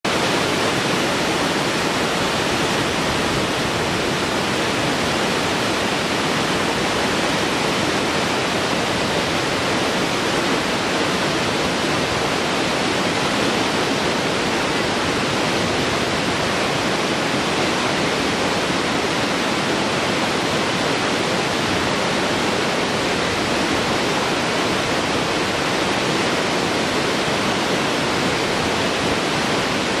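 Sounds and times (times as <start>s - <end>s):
waterfall rushing over rocks: 0.0s - 30.0s.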